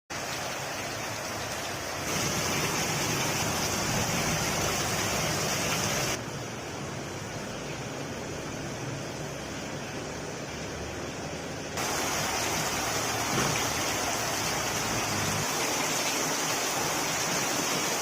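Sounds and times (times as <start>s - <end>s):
heavy rain falling: 0.1s - 18.0s.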